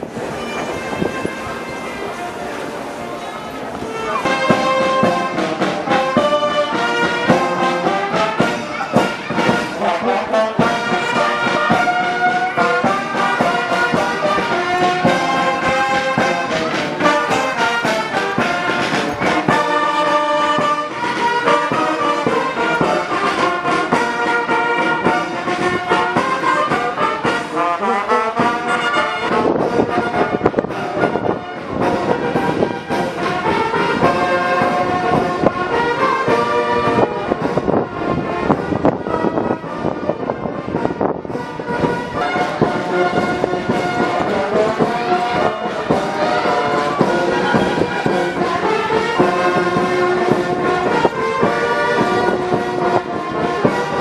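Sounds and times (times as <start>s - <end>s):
brass band playing: 0.0s - 54.0s
steady drum beat: 4.1s - 37.8s, 41.2s - 54.0s.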